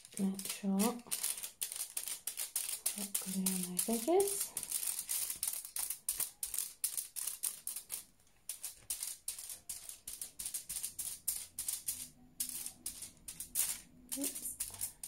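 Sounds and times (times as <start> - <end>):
paintbrush scratching on foil: 0.0 - 15.0.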